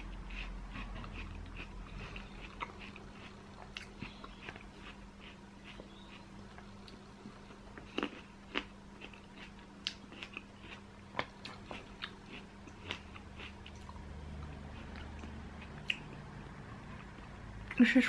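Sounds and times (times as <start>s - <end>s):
person chewing food: 0.0s - 16.3s.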